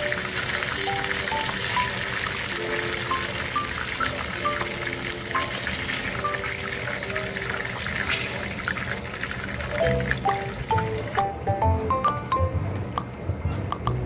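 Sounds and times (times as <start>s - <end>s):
plucked background melody: 0.0s - 8.2s, 9.8s - 14.0s
chicken deep-frying in oil: 0.0s - 11.4s.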